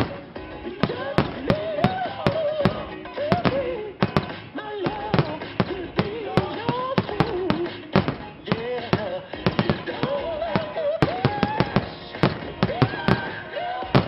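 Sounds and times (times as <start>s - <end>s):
fireworks bursting: 0.0s - 14.0s
music: 0.0s - 14.0s.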